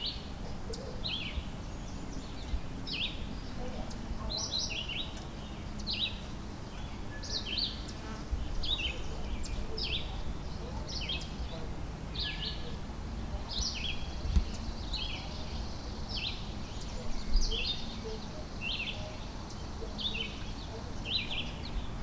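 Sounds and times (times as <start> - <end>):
low outdoor rumble: 0.0 - 22.0
songbird chirping: 0.0 - 22.0.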